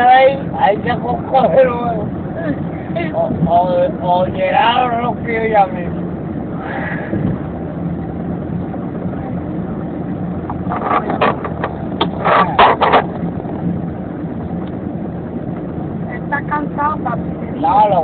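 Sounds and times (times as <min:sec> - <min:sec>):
road noise and engine hum: 0:00.0 - 0:18.0.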